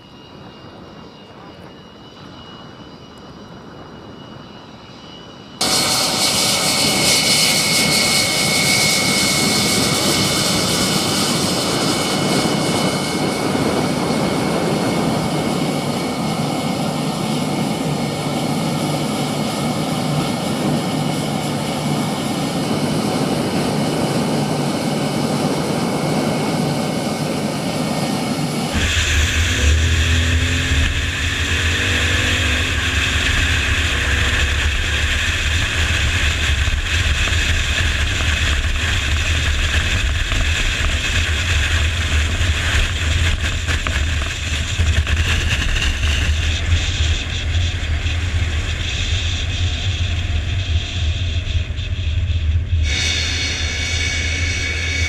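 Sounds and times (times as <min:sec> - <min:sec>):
jet engine hiss and whine: 0:00.0 - 0:55.0.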